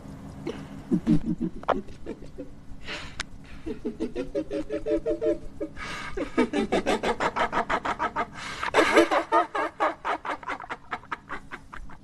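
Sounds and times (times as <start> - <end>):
rapid cackling laugh: 0.5 - 2.6, 3.5 - 12.0.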